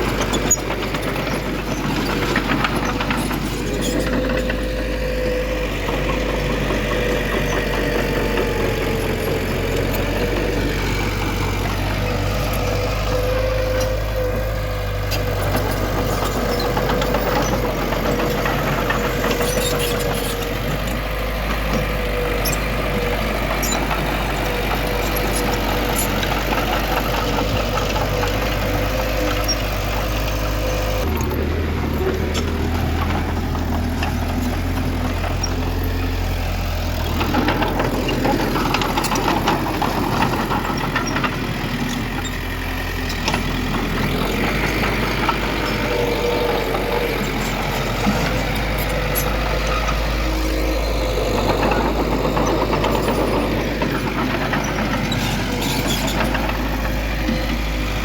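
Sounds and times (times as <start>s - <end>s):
diesel engines of earthmoving machinery: 0.0s - 58.0s.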